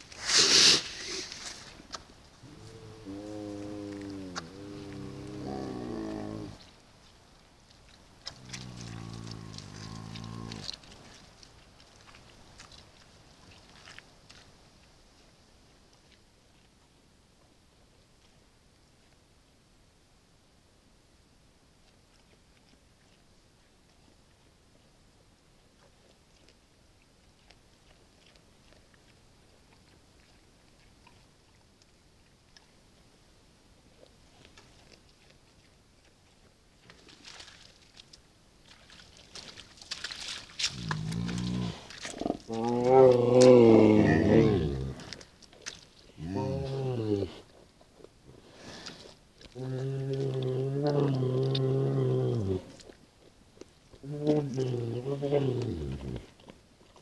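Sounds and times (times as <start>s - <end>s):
bear crunching and chewing: 0.0s - 19.6s, 21.8s - 57.0s
steady low hiss: 0.0s - 57.0s.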